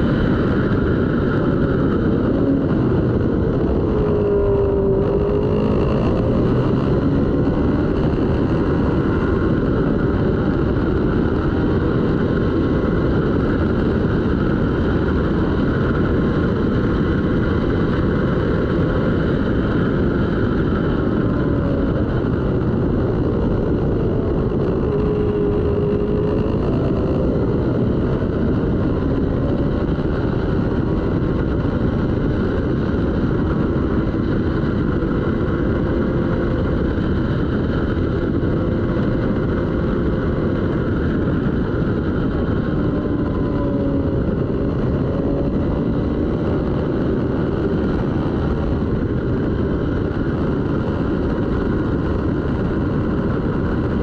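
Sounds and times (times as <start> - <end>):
motorcycle engine running hard: 0.0 - 54.0
steady rush of noise: 0.0 - 54.0.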